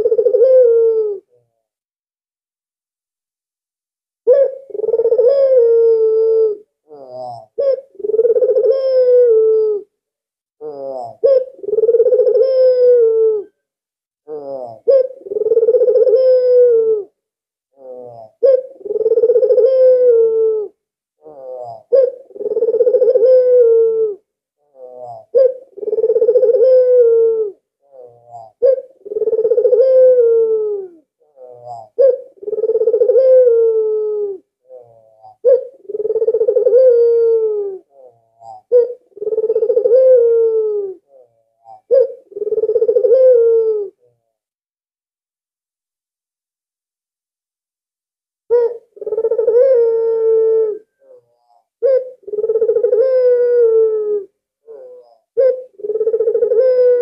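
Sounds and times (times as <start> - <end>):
dove cooing: 0.0 - 1.4, 4.2 - 9.9, 10.6 - 13.6, 14.3 - 17.2, 17.8 - 44.2, 48.5 - 57.0.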